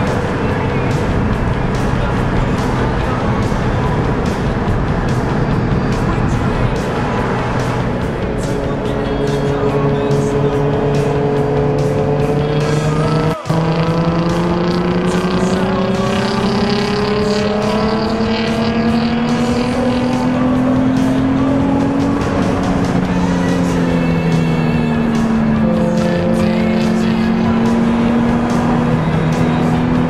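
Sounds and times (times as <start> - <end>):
car engine accelerating: 0.0 - 30.0
road noise inside car: 0.0 - 30.0.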